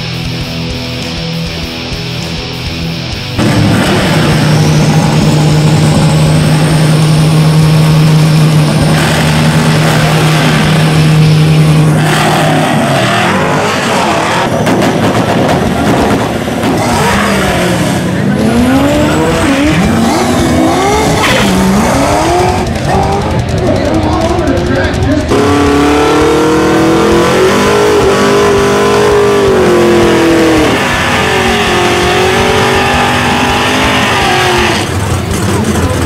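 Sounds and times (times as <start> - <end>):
engine revving: 0.0 - 36.0
race car engine held high: 0.0 - 36.0.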